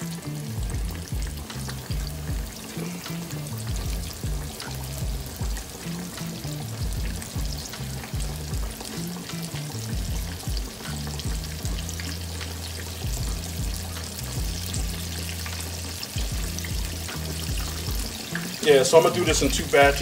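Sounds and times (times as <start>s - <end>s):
fish deep-frying in oil: 0.0s - 20.0s.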